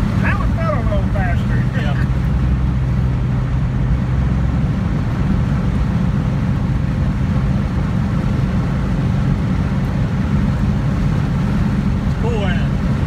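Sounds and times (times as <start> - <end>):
car engine running: 0.0 - 13.0
wind and tyre noise: 0.0 - 13.0.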